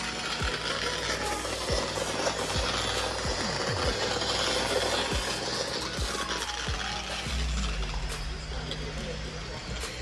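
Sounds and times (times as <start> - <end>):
faint background music: 0.0 - 10.0
low hum: 0.0 - 10.0.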